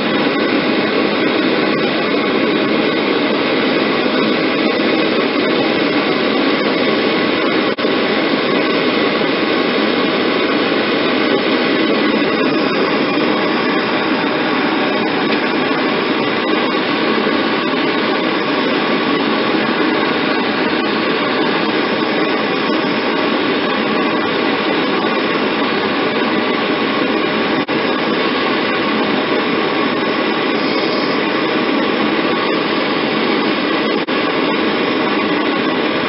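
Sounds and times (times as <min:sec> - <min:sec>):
torch flame hissing: 0:00.0 - 0:36.0.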